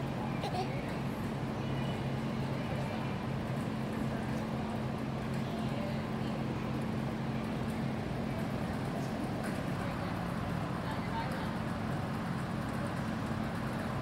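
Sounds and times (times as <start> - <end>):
large fan humming: 0.0 - 14.0.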